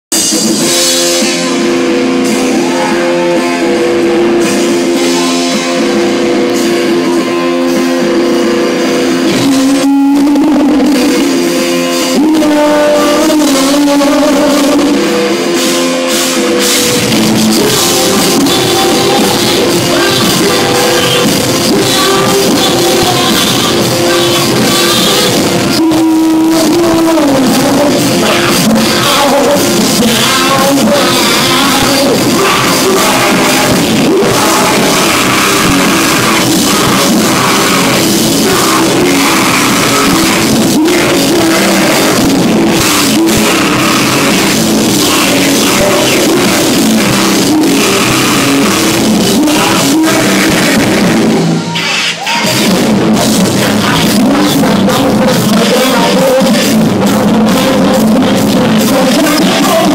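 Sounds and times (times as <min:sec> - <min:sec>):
distorted electric guitars: 0:00.0 - 0:59.9
drum kit: 0:00.0 - 0:59.9
person singing: 0:00.1 - 0:59.9.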